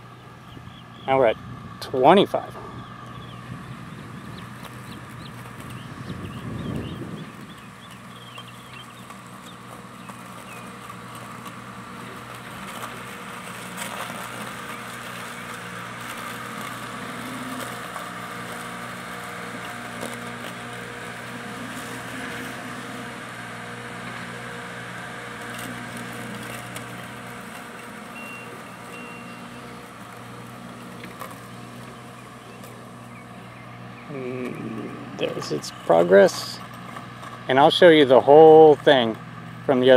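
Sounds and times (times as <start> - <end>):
loader engine running: 0.0 - 39.9.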